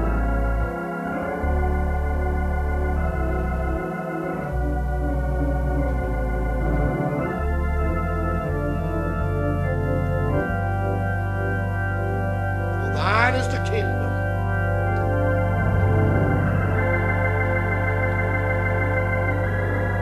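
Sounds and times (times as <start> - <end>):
organ playing chords: 0.0 - 20.0.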